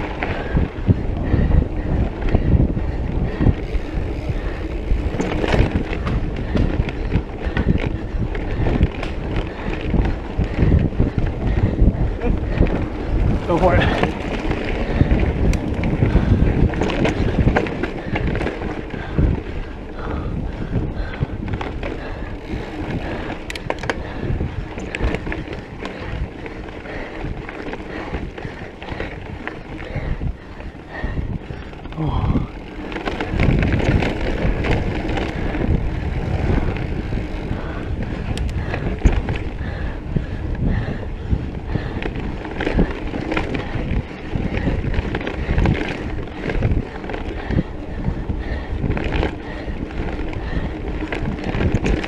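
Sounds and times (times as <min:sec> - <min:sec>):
bike rattling over bumps: 0:00.0 - 0:52.0
bike tyre noise on dirt: 0:00.0 - 0:52.0
wind buffeting microphone: 0:00.0 - 0:52.0.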